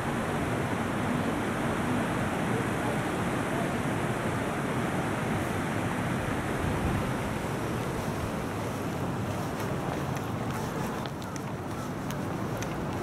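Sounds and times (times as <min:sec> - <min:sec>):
river water flowing over stones: 0:00.0 - 0:13.0.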